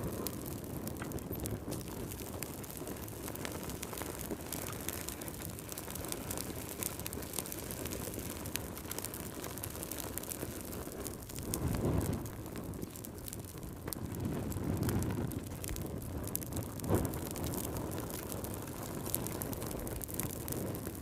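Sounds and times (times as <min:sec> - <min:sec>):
fire crackles and pops: 0:00.0 - 0:21.0
fire rumbling in fireplace: 0:00.0 - 0:21.0.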